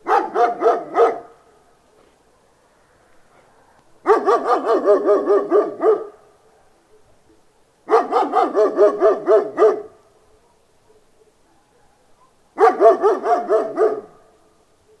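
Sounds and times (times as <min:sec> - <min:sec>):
big dog barking: 0:00.0 - 0:02.7, 0:03.3 - 0:15.0.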